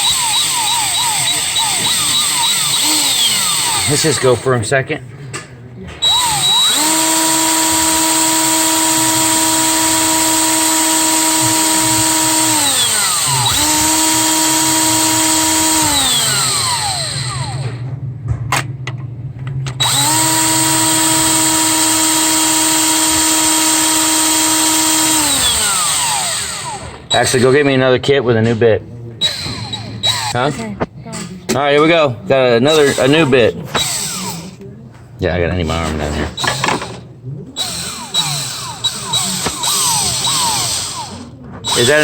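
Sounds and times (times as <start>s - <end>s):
power drill drilling: 0.0s - 4.5s, 6.0s - 17.8s, 19.8s - 27.6s, 29.2s - 31.4s, 32.7s - 34.6s, 35.7s - 37.0s, 37.6s - 42.0s.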